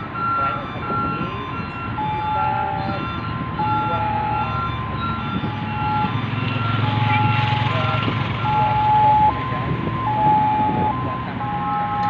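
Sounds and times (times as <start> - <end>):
diesel engine running: 0.0 - 12.0
electronic warning jingle: 0.0 - 12.0.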